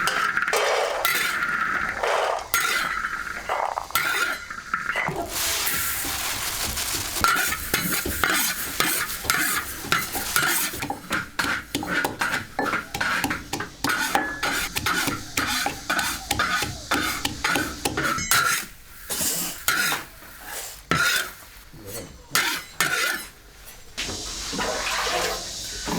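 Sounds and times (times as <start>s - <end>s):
food sizzling in a pan: 0.0s - 25.9s
utensil scraping a pan: 0.0s - 25.9s.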